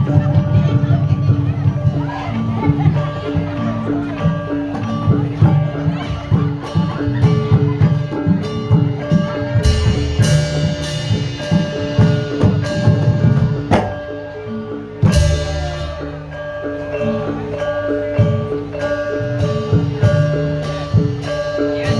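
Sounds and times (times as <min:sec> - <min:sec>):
hand drum strokes: 0:00.0 - 0:21.9.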